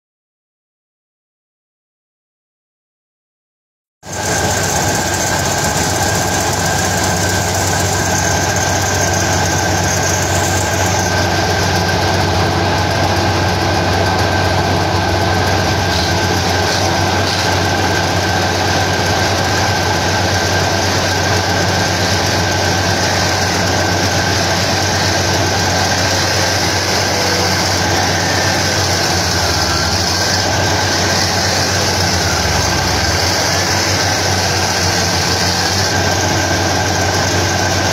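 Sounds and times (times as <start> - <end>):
tractor engine running under load: 4.0 - 37.9.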